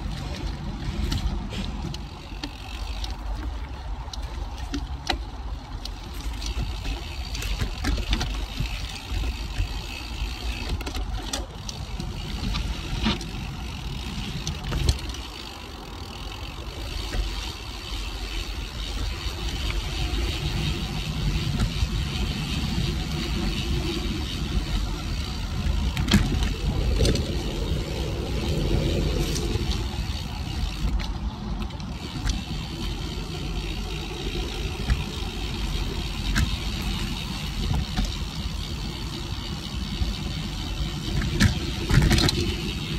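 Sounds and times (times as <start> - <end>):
bike rattles and knocks: 0.0 - 42.9
bike tyres rolling on dirt: 0.0 - 42.9.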